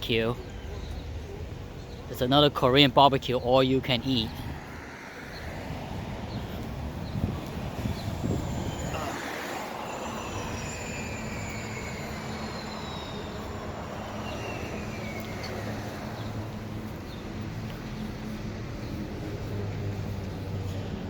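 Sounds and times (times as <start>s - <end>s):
city street traffic: 0.0s - 21.0s
high whine of passing vehicle: 4.0s - 21.0s.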